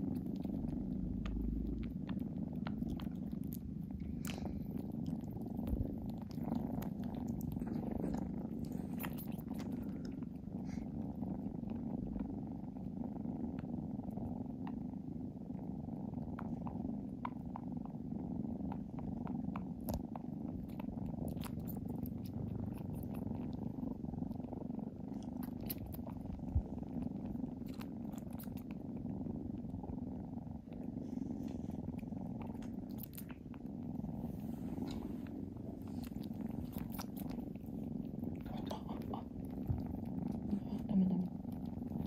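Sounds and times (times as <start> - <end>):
kitten purring: 0.0 - 42.0.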